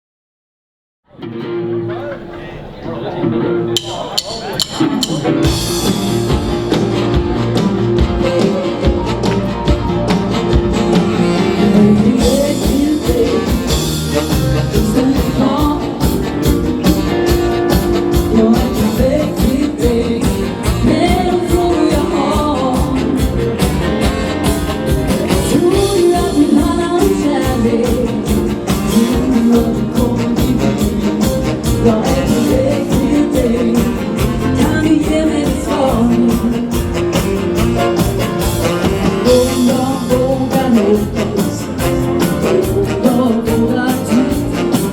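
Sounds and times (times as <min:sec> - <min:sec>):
dance band playing: 0:01.9 - 0:44.9
person singing: 0:08.2 - 0:44.9.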